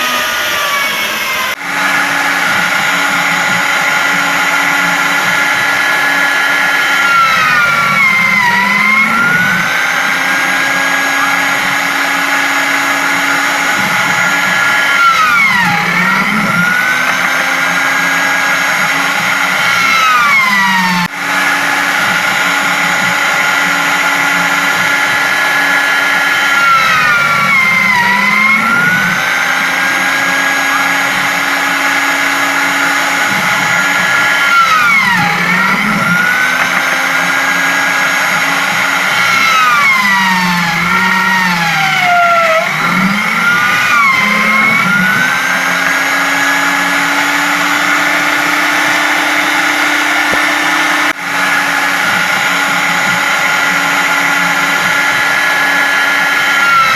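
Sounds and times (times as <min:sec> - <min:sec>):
drill press motor running: 0:00.0 - 0:56.9.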